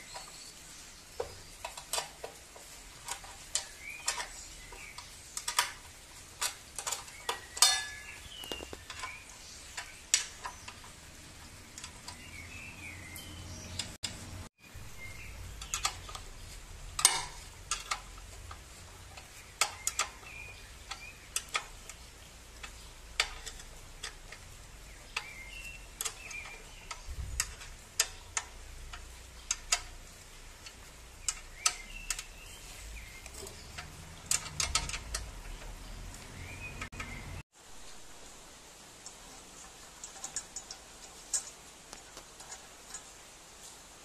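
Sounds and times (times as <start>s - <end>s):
spanner tapping on metal bolts: 1.1s - 14.4s, 15.5s - 37.4s.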